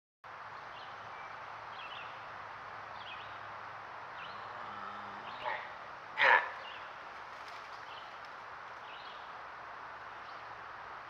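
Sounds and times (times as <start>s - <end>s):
steady woodland hiss: 0.3s - 11.0s.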